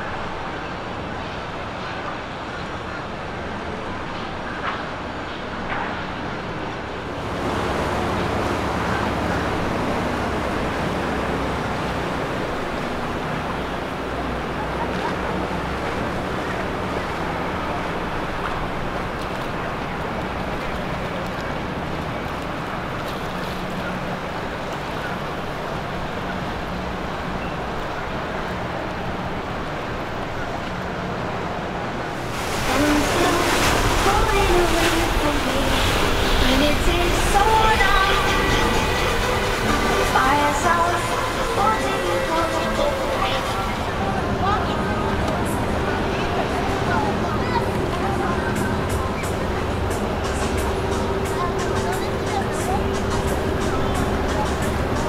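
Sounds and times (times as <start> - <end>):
boat wake rushing: 0.0 - 55.0
motor boat engines humming: 0.0 - 55.0
water wash: 0.0 - 55.0.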